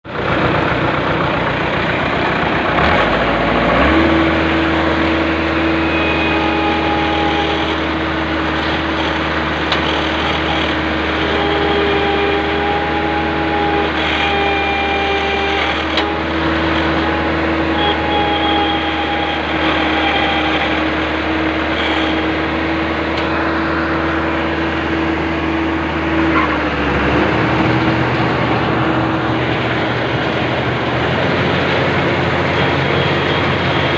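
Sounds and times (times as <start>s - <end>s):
combine harvester running: 0.0s - 33.9s.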